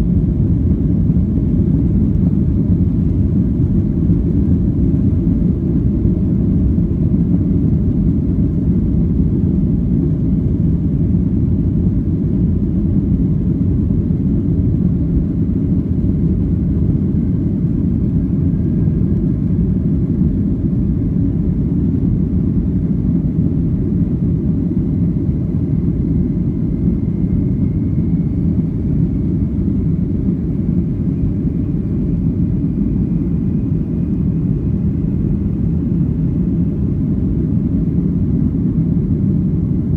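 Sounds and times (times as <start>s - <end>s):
aircraft engines rumbling: 0.0s - 39.9s.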